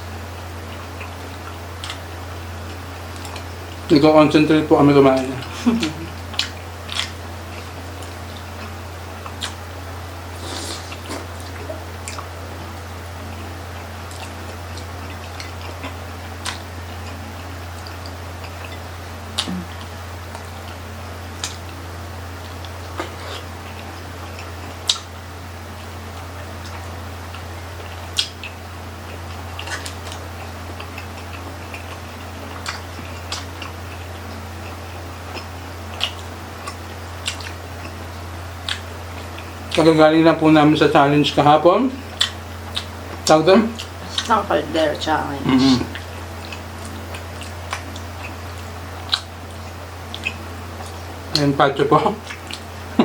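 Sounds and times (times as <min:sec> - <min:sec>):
steady low hum: 0:00.0 - 0:53.0
chewing and mouth sounds: 0:00.6 - 0:04.0, 0:05.2 - 0:40.0, 0:42.0 - 0:53.0.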